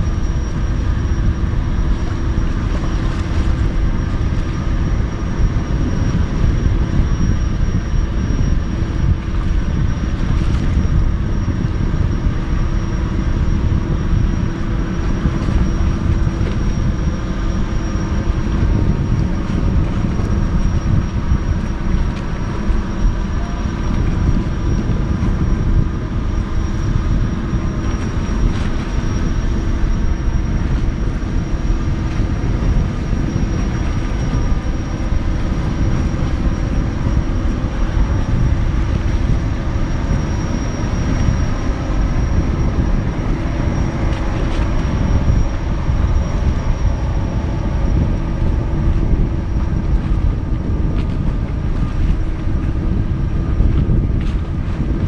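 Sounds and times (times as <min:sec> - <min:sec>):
ship machinery drone: 0:00.0 - 0:55.0.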